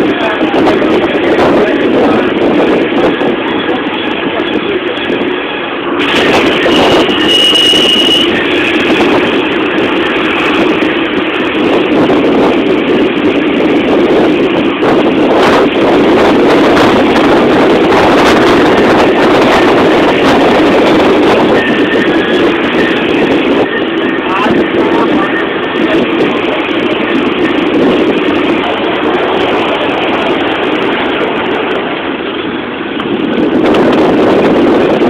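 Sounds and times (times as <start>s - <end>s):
vehicle engine and road noise: 0.0s - 35.0s.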